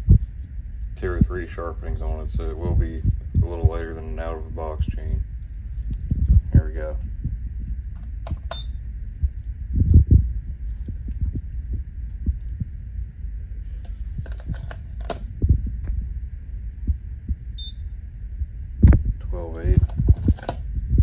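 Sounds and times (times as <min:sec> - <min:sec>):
low handling rumble: 0:00.0 - 0:21.0.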